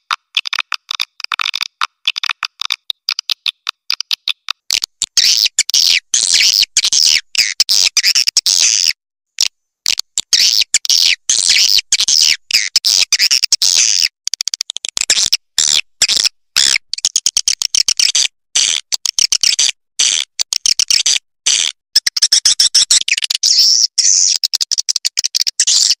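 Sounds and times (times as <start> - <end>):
high-pitched bird chirps and clicks: 0.0 - 26.0.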